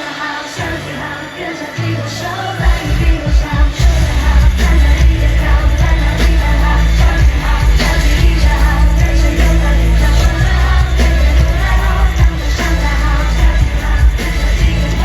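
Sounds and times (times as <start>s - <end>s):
live pop dance music: 0.0s - 15.0s
person singing: 0.0s - 15.0s
heavy bass beat: 2.6s - 15.0s.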